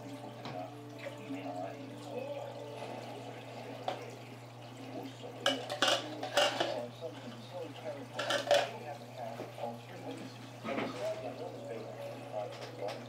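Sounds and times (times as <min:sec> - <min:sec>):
aquarium pumps humming: 0:00.0 - 0:13.0
bubbling churning water: 0:00.0 - 0:13.0.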